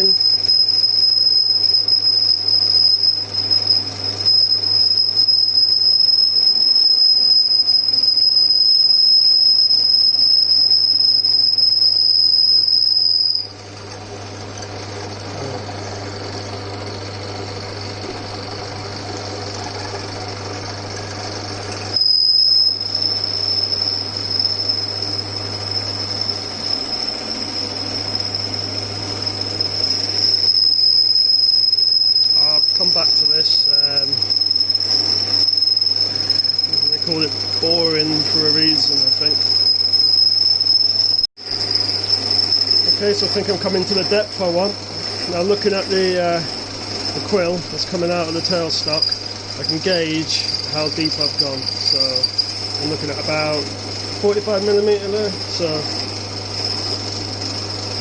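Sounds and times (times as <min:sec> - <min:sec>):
cutting tool squealing: 0:00.0 - 0:58.0
lathe motor hum: 0:00.0 - 0:58.0.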